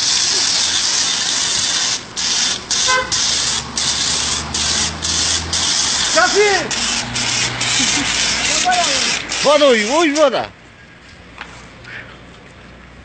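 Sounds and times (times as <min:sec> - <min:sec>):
pressure washer spraying water: 0:00.0 - 0:10.4.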